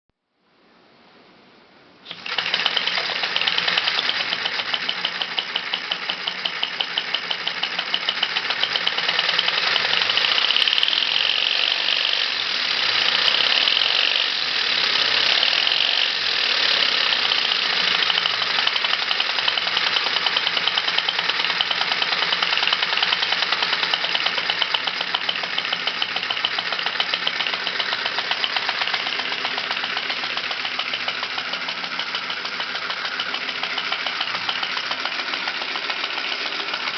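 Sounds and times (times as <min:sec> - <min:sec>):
model engine clattering: 0:02.1 - 0:36.9.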